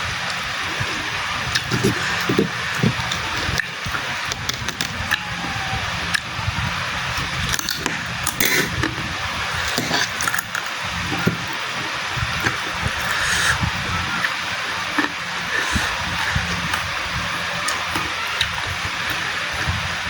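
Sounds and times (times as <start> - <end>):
wet chewing and slurping: 0.2 - 5.2, 7.2 - 19.7
mouth clicks: 0.2 - 20.0.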